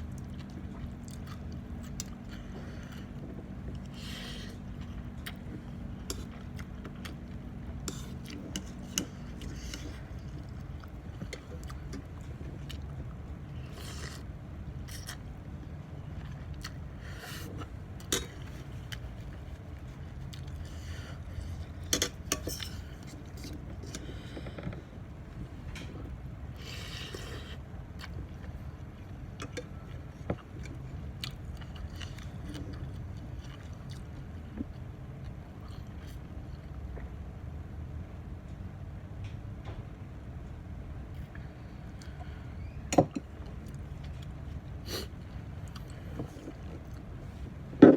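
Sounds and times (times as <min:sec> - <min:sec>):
person chewing food: 0:00.0 - 0:37.2, 0:43.1 - 0:47.8
low background hum: 0:00.0 - 0:47.9.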